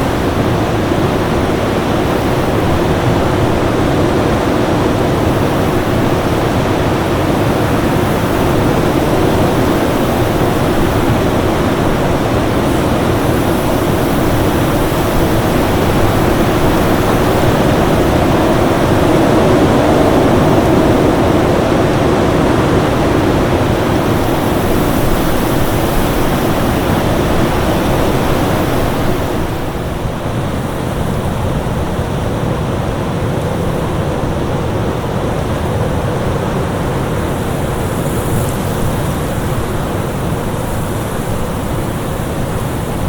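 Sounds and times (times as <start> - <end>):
dense wind noise: 0.0 - 43.0.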